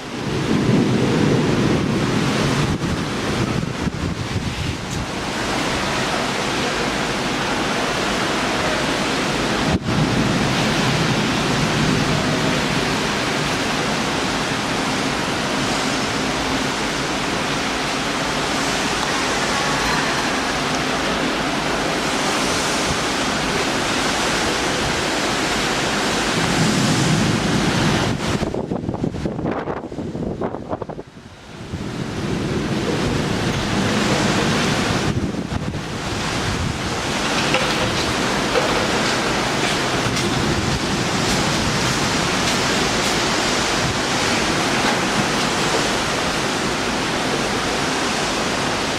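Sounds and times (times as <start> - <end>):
storm wind rushing: 0.0 - 48.9.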